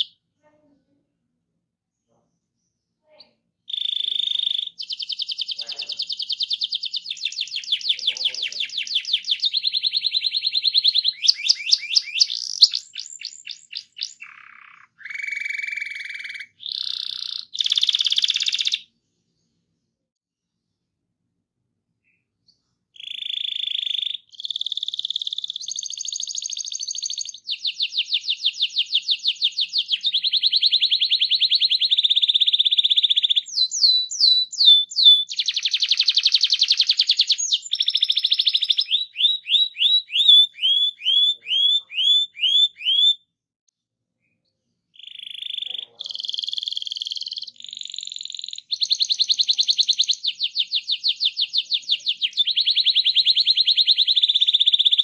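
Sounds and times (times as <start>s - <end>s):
canary singing: 0.0s - 0.2s, 2.1s - 19.0s, 22.0s - 43.3s, 44.2s - 55.0s.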